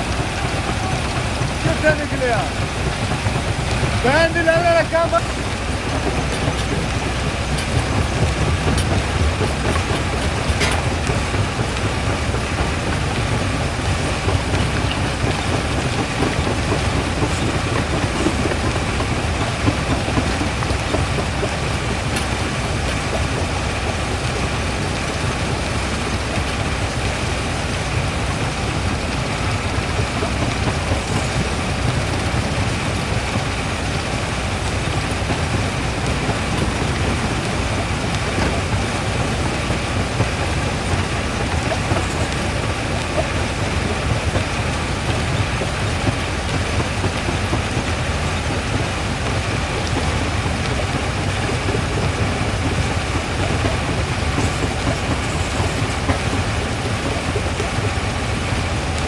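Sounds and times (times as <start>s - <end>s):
jaw crusher rumbling: 0.0s - 59.0s.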